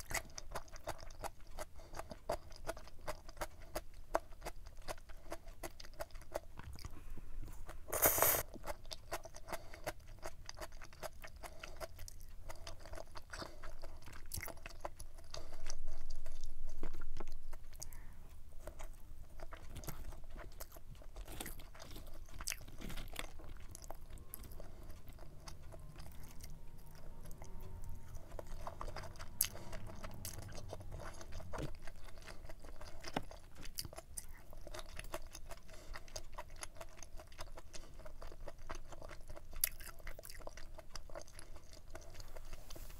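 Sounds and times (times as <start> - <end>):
close chewing: 0.0 - 42.9.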